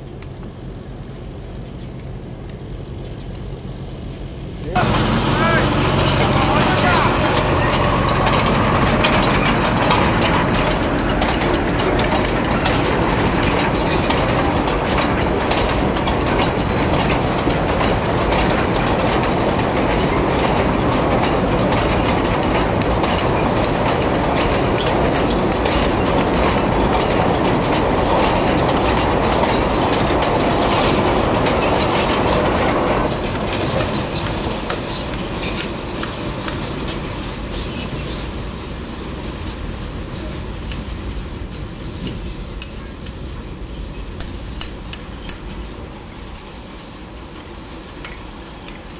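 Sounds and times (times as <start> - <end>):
rail vehicle running on track: 0.0 - 48.9.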